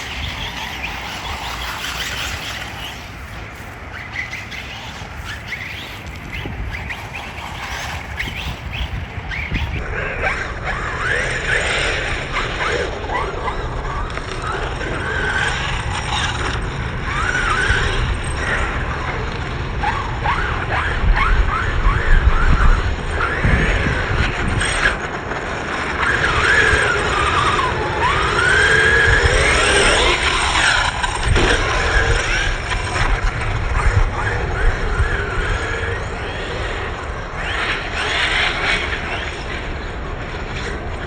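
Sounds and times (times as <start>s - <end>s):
small electric motor whining: 0.0s - 41.0s.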